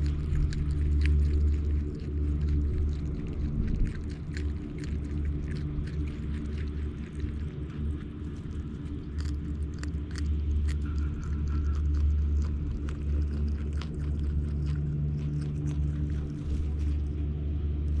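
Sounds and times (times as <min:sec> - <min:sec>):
animals crunching carrots: 0:00.0 - 0:18.0
steady low rumble: 0:00.0 - 0:18.0.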